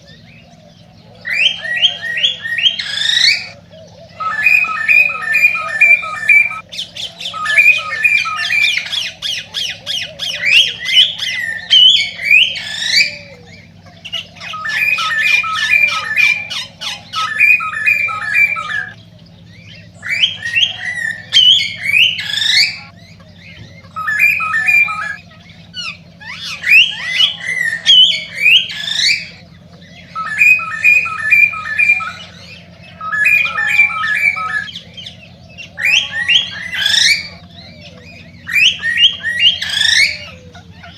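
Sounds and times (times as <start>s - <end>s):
cockatiel singing: 0.0s - 40.9s.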